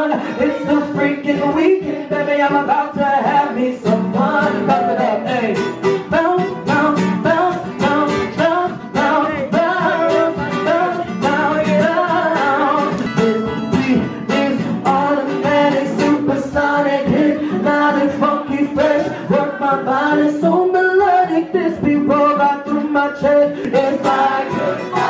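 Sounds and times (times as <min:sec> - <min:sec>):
acoustic guitar strumming: 0:00.0 - 0:25.0
man singing into a microphone: 0:00.0 - 0:25.0.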